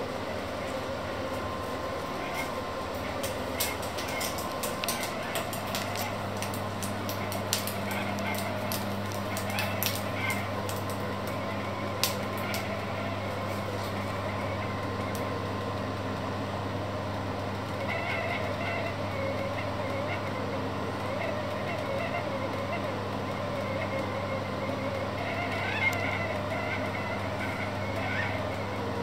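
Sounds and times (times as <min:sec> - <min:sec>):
induction hob humming: 0:00.0 - 0:29.0.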